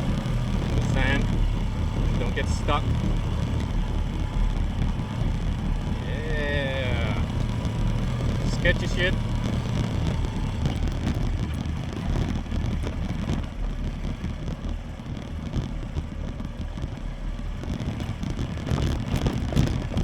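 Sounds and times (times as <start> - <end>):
motorcycle engine running: 0.0 - 20.0
tyres rumbling on gravel: 0.0 - 20.0
wind buffeting microphone: 0.0 - 20.0.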